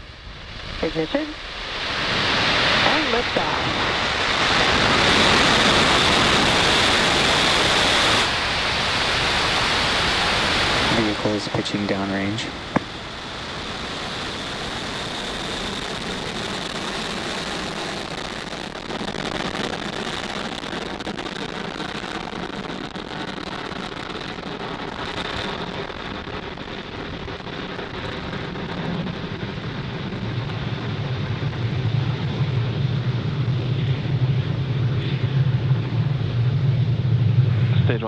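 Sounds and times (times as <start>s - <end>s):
heavy low rumble: 0.0s - 38.0s
rocket engines roaring: 0.0s - 38.0s.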